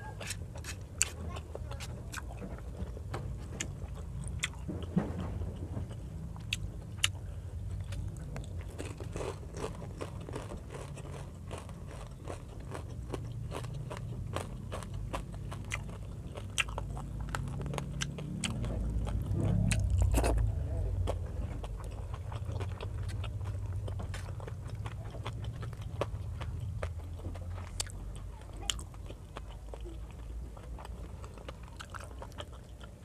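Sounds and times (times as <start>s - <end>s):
person chewing with crunches: 0.0s - 33.0s.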